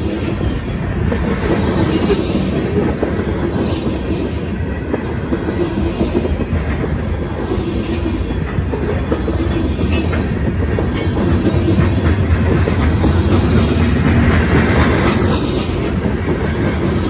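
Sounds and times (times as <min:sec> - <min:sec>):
train cars rumbling past: 0:00.0 - 0:17.0.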